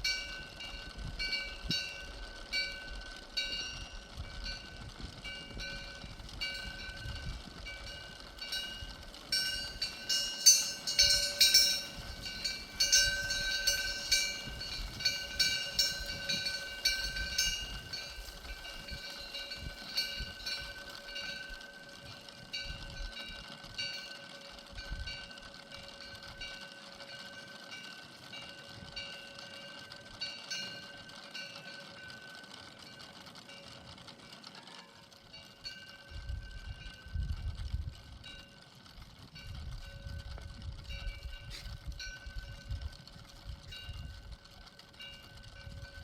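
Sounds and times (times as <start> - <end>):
steady ringing tones: 0.0 - 46.0.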